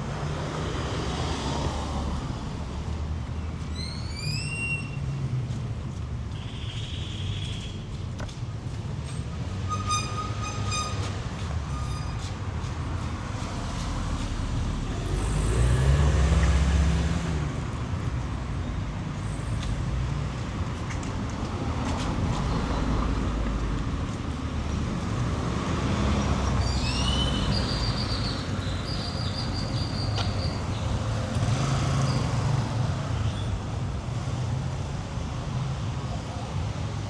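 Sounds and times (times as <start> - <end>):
vehicle engines passing: 0.0 - 6.5, 7.4 - 37.0.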